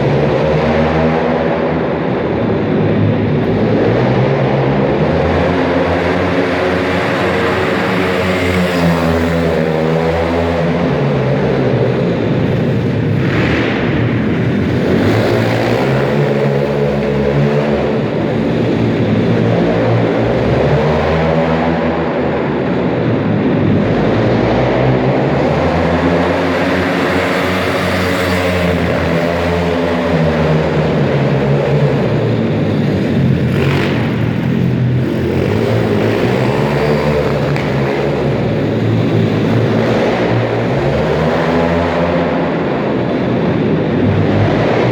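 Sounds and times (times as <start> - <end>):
pit bike engine revving: 2.6 - 21.9, 23.6 - 44.9.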